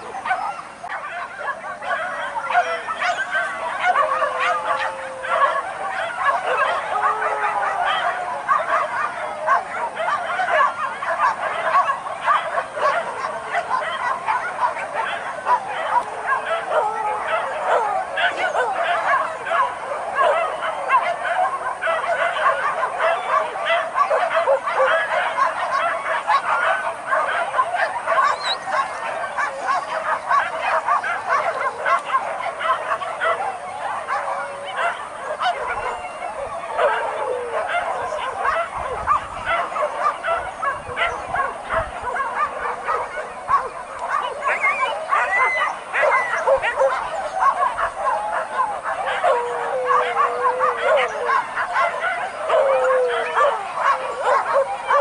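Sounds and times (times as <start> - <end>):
dogs yelping and baying: 0.0 - 55.0.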